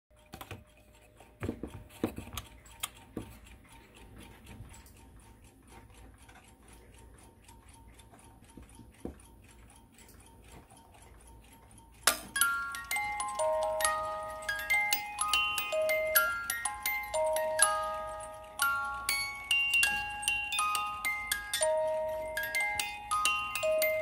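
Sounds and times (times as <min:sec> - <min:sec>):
alarm clock ticking: 0:00.1 - 0:24.0.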